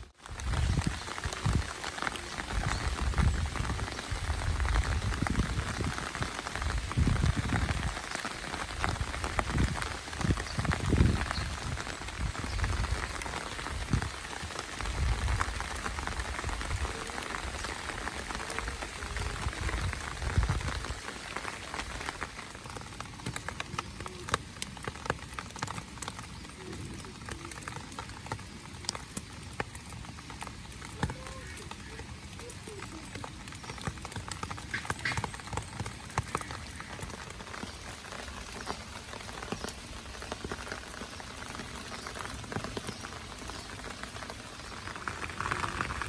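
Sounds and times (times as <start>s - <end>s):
rain pattering: 0.0s - 46.0s.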